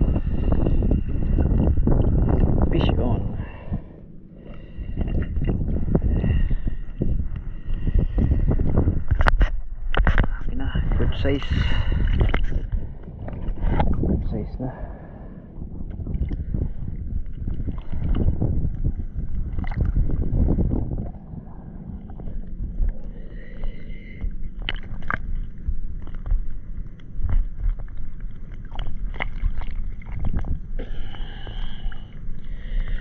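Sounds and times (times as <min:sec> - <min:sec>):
seawater sloshing and lapping: 0:00.0 - 0:33.0
wind buffeting microphone: 0:00.0 - 0:33.0.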